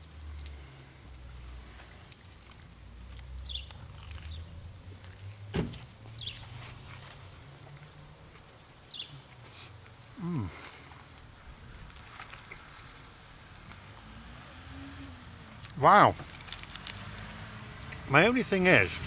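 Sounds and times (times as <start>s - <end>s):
vehicle rumble on road: 0.0s - 19.0s.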